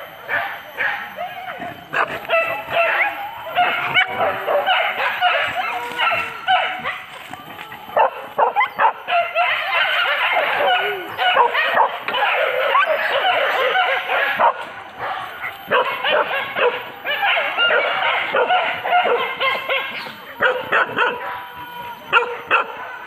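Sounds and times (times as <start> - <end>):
dogs yelping and barking: 0.0 - 23.0.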